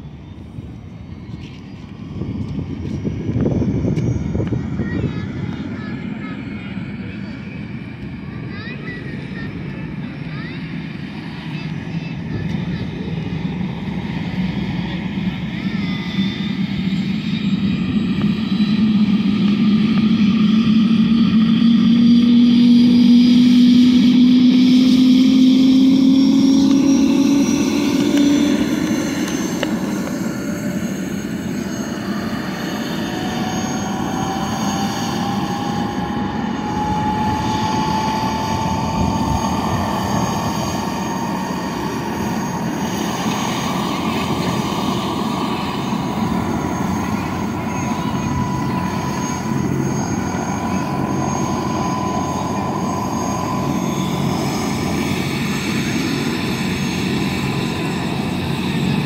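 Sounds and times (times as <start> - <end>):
helicopter turbine and rotor whine: 0.0 - 59.0.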